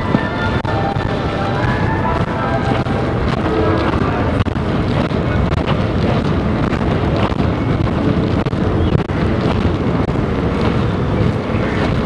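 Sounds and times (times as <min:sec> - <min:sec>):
faint footsteps: 0:00.0 - 0:12.0
steady low rumble: 0:00.0 - 0:12.0.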